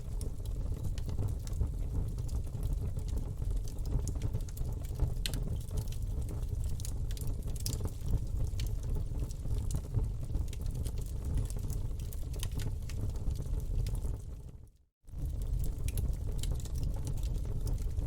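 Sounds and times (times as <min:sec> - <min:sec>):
low fire rumble: 0:00.0 - 0:18.0
campfire crackling and popping: 0:00.1 - 0:14.3, 0:15.1 - 0:18.0.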